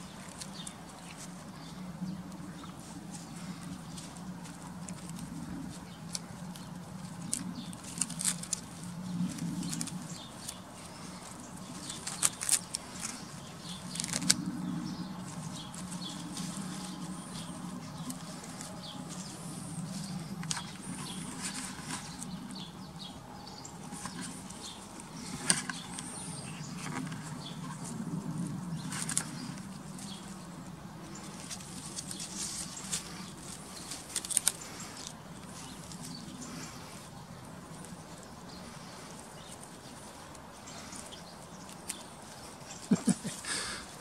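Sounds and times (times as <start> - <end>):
cat biting leaves: 0.0 - 22.6, 23.7 - 44.0
steady low hum: 0.0 - 44.0.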